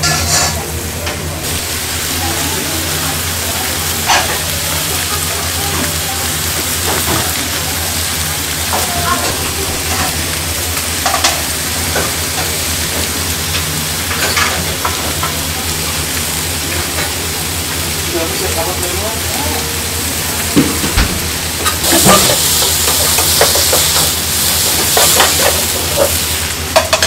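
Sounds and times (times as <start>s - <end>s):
food sizzling in pans: 0.0s - 27.0s.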